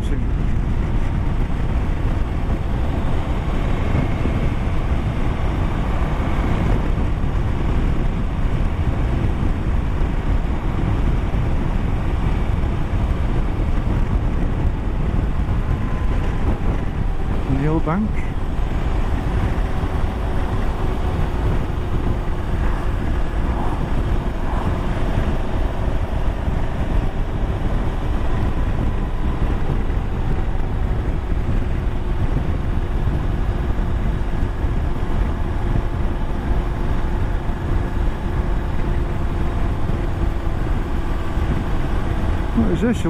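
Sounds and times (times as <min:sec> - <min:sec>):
motorcycle engine cruising: 0:00.0 - 0:43.0
wind buffeting microphone: 0:00.0 - 0:43.0.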